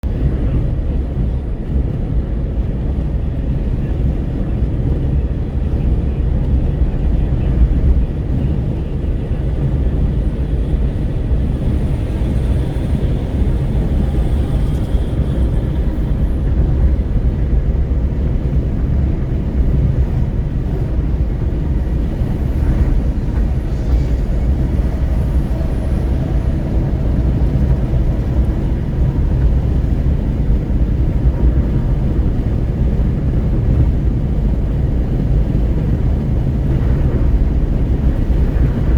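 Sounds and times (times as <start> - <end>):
tyre and road noise: 0.0 - 38.9
wind buffeting through car window: 0.0 - 38.9.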